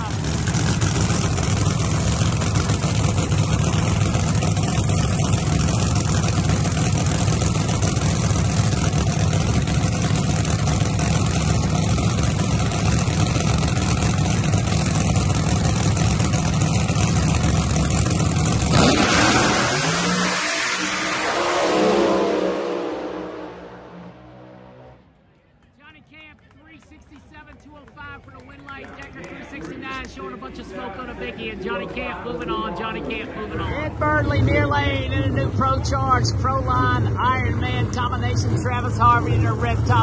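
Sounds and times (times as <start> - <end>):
drag car engines droning: 0.0 - 40.0.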